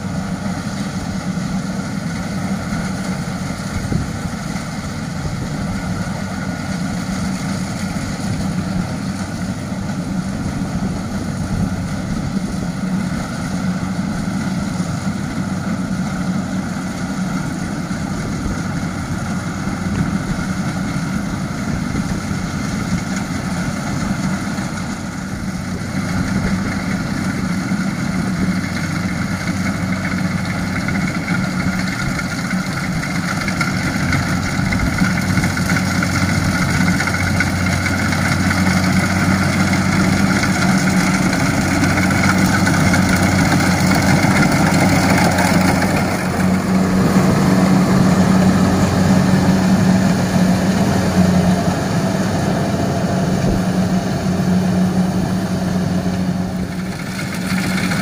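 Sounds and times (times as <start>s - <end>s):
harvester diesel engine droning: 0.0s - 58.0s.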